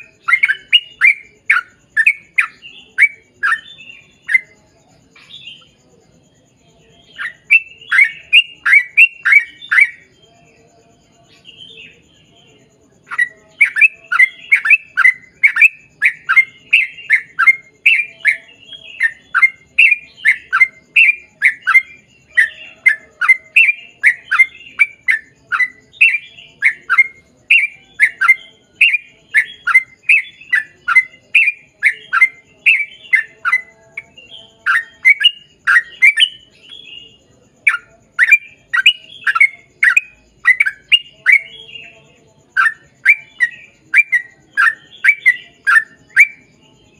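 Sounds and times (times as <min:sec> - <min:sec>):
bird singing whistled notes: 0:00.0 - 0:46.9.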